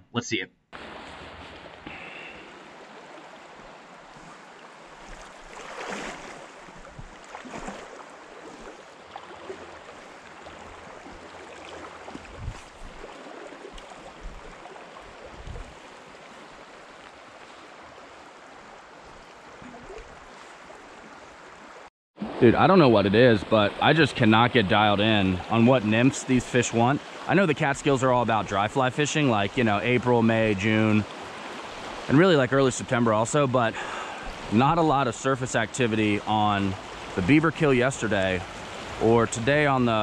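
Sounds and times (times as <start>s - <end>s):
stream flowing: 0.8s - 40.0s.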